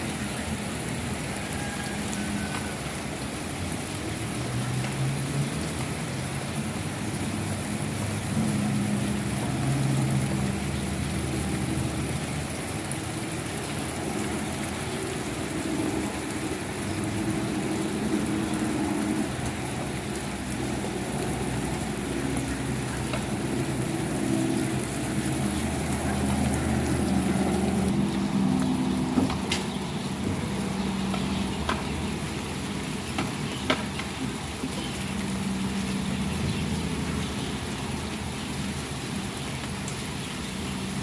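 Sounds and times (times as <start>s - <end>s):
low engine-like hum: 0.0s - 41.0s
soft rain falling: 0.0s - 41.0s.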